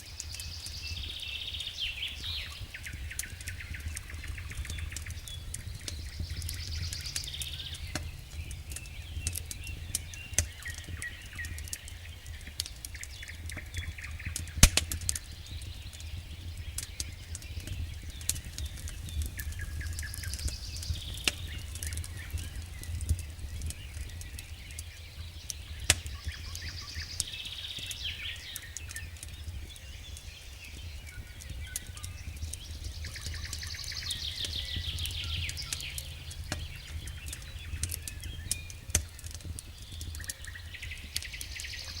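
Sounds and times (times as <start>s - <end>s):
fire pops: 0.0s - 42.0s
small birds trilling: 0.0s - 42.0s
wood fire crackling: 0.0s - 42.0s.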